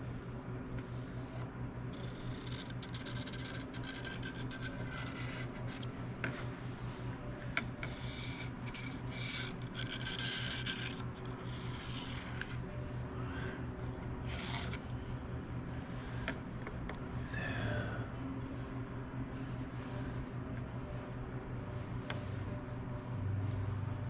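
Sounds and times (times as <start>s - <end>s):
low shop hum: 0.0s - 24.0s.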